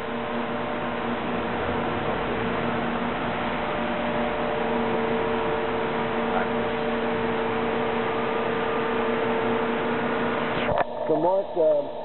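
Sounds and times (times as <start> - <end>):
two-note machinery hum: 0.0 - 12.0.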